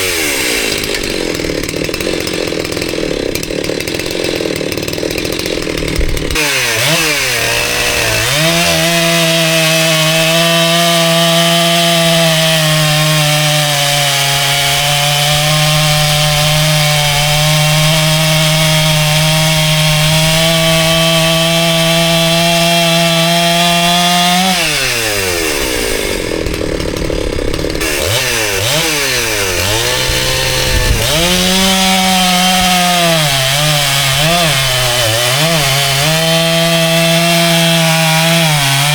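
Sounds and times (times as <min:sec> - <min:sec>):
chainsaw revving in wood: 0:00.0 - 0:38.9.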